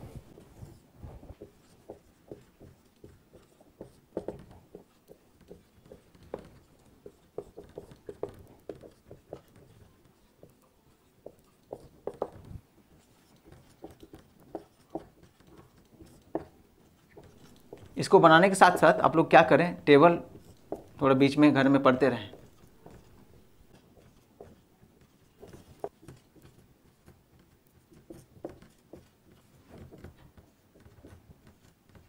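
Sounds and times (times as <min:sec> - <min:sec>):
pen scratching and tapping: 0:00.3 - 0:32.0.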